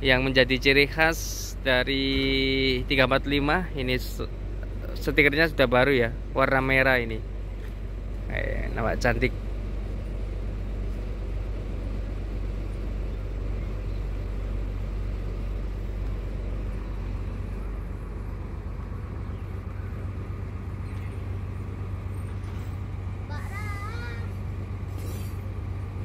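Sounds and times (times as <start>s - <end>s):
bus diesel engine idling: 0.0s - 26.0s.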